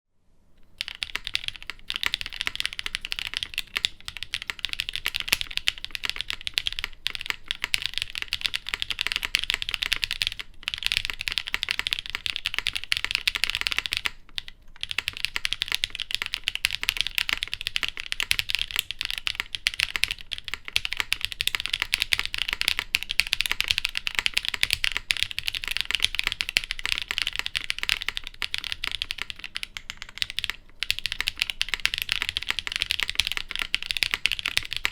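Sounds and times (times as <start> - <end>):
fast typing on a keyboard: 0.7 - 34.9.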